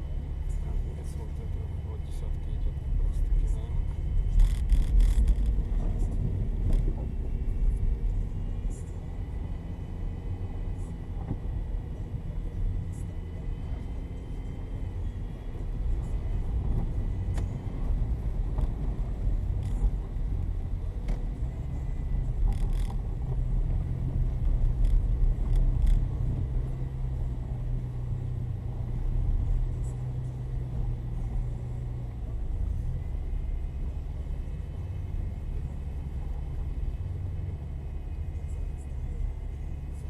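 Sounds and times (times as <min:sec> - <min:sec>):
car engine and road rumble: 0:00.0 - 0:40.0
engine hum: 0:00.0 - 0:40.0.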